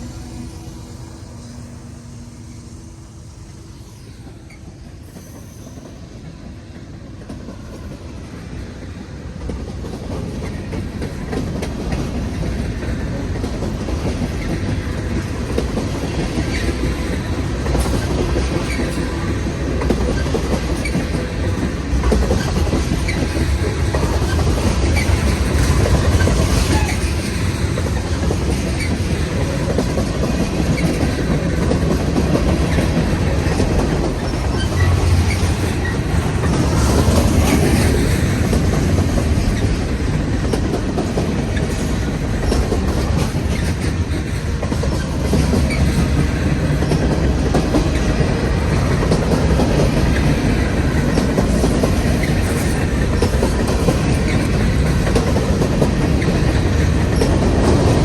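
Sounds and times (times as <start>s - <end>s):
train wheel squeals: 0.0s - 6.4s, 15.6s - 40.8s, 41.4s - 58.0s
freight train wheels clattering: 4.2s - 58.0s.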